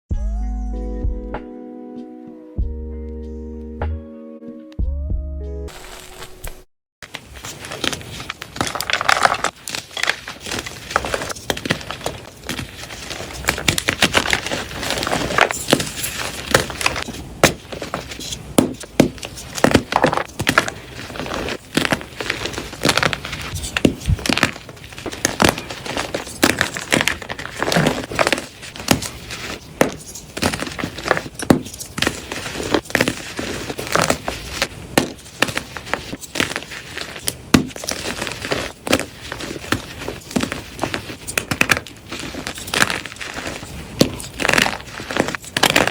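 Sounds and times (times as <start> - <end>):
chalk blocks crunching: 5.7 - 45.9.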